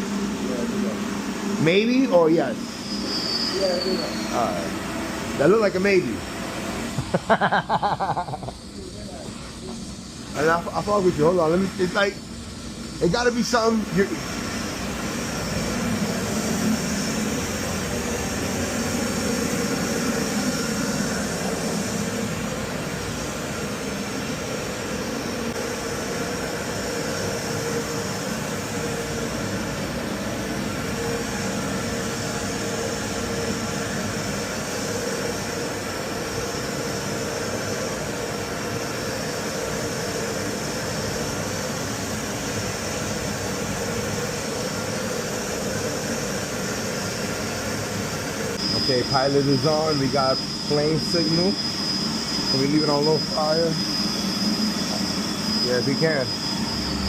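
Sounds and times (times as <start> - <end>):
boiler burner and blower rushing: 0.0 - 57.0
constant hum: 0.0 - 57.0.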